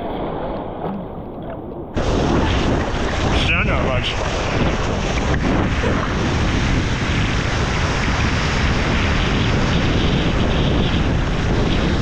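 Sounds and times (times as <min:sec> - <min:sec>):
wind on microphone: 0:01.4 - 0:12.0.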